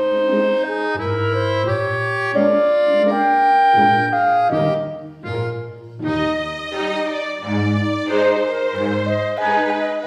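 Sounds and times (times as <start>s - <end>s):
slow melody of long notes: 0.0s - 10.0s.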